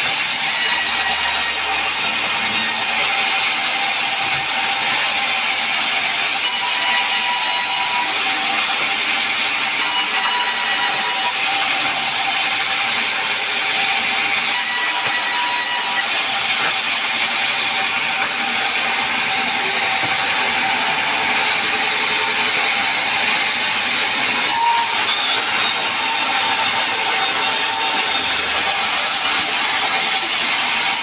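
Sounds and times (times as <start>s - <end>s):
sawmill saw running: 0.0s - 31.0s.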